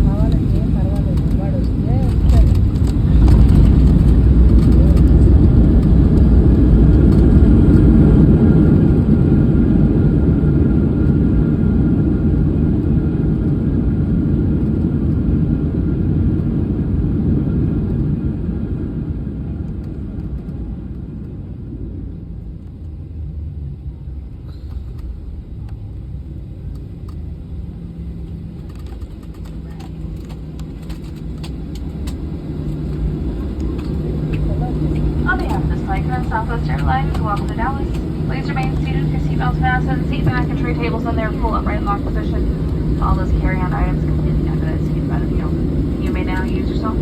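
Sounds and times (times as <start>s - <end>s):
jet engines and runway rumble: 0.0s - 47.0s
quiet steady cabin hum: 0.0s - 47.0s.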